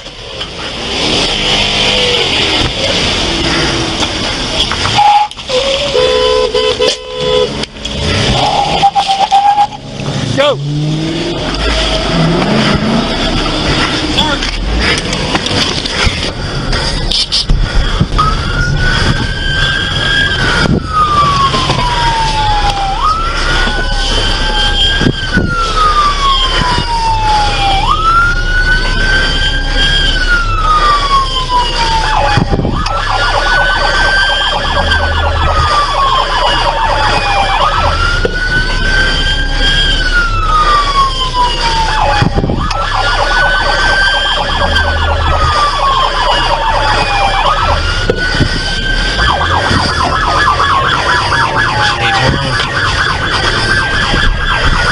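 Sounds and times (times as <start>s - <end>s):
police siren wailing: 0.0s - 54.9s.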